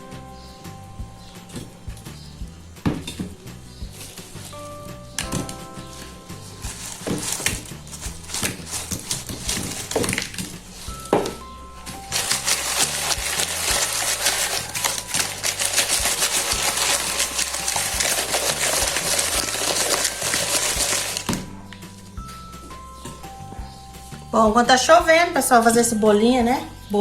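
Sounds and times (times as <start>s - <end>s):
dough rolling in sugar: 0.0s - 24.6s
background music: 0.0s - 27.0s.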